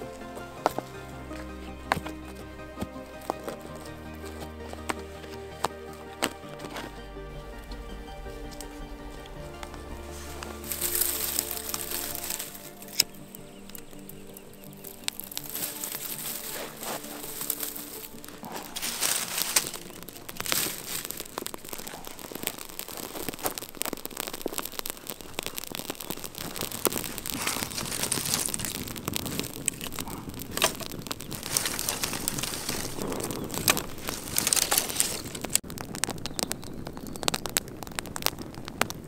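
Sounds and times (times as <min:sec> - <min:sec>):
campfire crackling and popping: 0:00.0 - 0:39.0.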